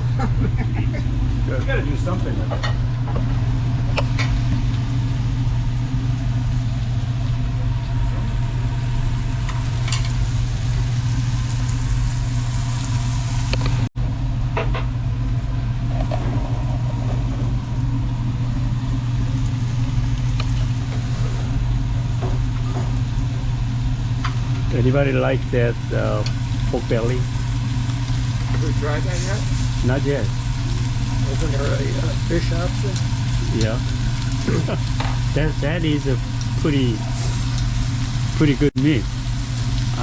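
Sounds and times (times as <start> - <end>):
meat sizzling on a grill: 0.0 - 13.9, 15.4 - 40.0
low hum of exhaust fan: 0.0 - 40.0.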